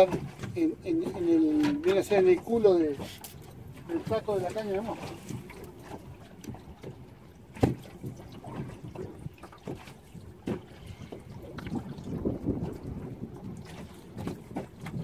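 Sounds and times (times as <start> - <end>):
small waves lapping against boat hull: 0.0 - 15.0.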